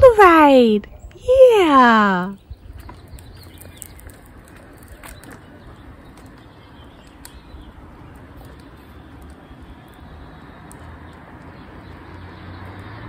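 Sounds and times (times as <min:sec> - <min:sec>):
distant birds calling: 0:00.0 - 0:13.0
wind rumble on microphone: 0:02.4 - 0:13.0.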